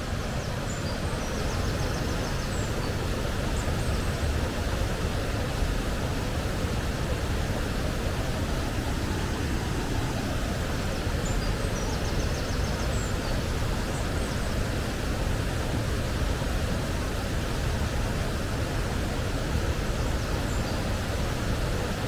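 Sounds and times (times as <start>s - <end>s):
fast-flowing water rushing: 0.0s - 22.0s.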